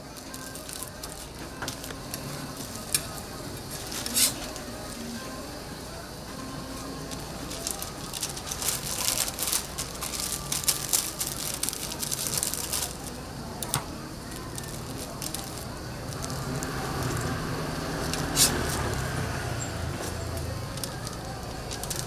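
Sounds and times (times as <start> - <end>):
food frying on griddle: 0.0 - 22.0.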